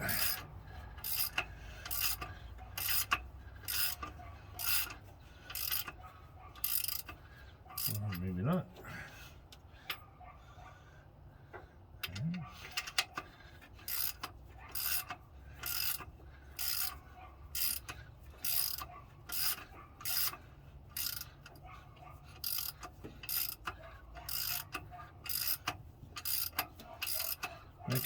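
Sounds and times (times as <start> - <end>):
ratchet wrench clicking: 0.0 - 6.0, 6.6 - 8.2, 12.0 - 21.6, 22.3 - 28.0.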